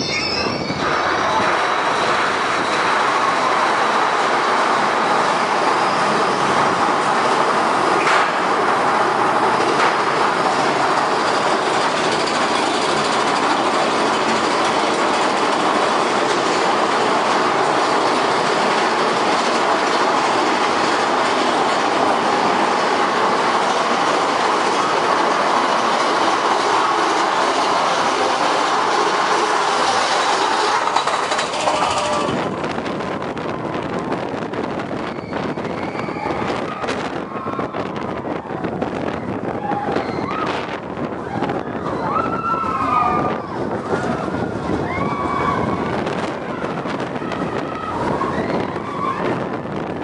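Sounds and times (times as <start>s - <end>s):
roller coaster rattling on track: 0.0s - 50.0s.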